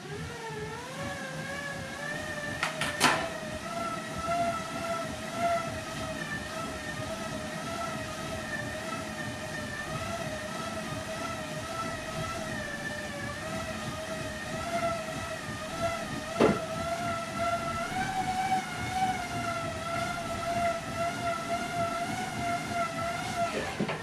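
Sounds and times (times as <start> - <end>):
bicycle rollers whining: 0.0 - 24.0.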